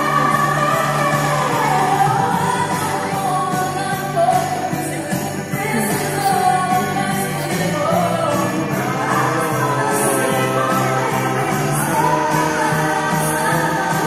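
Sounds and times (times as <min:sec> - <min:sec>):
festive music with jingle bells: 0:00.0 - 0:14.0
person singing: 0:00.0 - 0:14.0.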